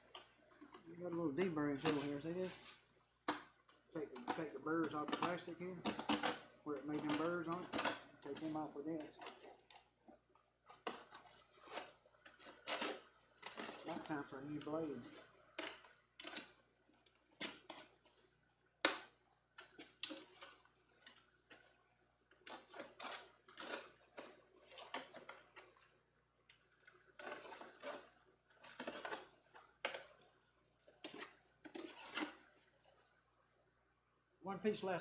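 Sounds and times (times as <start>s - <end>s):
deburring tool scraping plastic: 0.0s - 33.2s.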